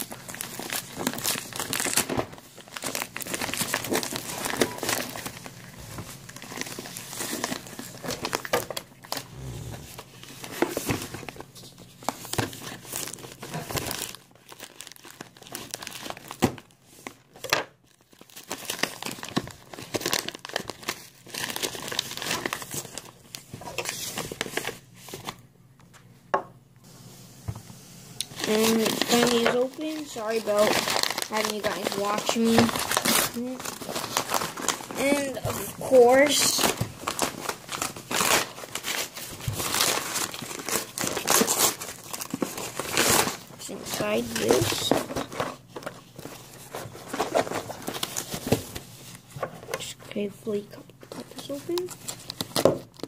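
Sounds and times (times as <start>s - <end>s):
paper and tape crinkling and tearing: 0.0s - 25.4s, 28.2s - 53.0s.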